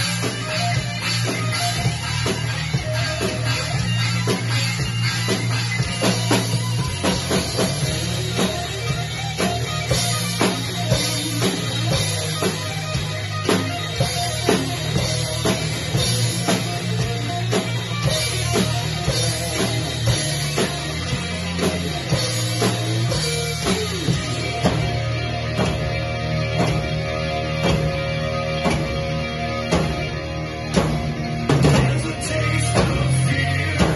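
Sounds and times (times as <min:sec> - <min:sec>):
drum kit beat: 0:00.0 - 0:33.9
electric guitar: 0:00.0 - 0:33.9.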